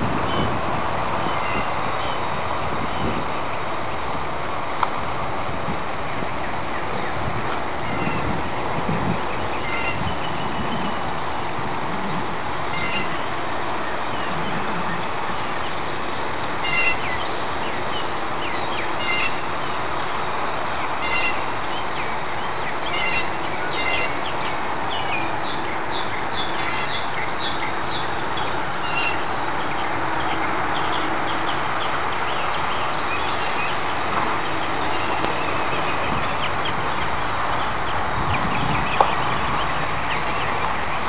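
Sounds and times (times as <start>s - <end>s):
songbirds singing: 0.0s - 41.0s.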